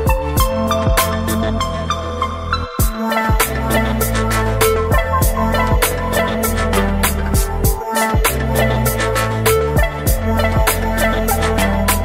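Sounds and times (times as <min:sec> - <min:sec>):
upbeat music with drums and bass: 0:00.0 - 0:12.0.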